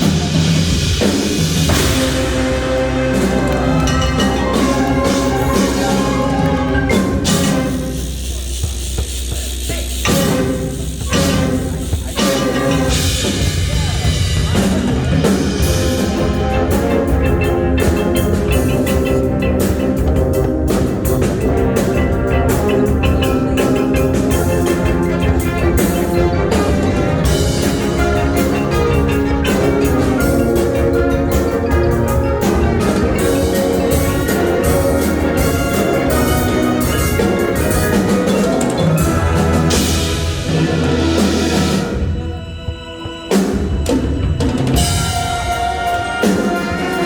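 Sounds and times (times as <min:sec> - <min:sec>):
brass and wind chords: 0:00.0 - 0:08.6, 0:09.9 - 0:47.0
drums: 0:00.0 - 0:47.0
marching band playing: 0:00.0 - 0:47.0.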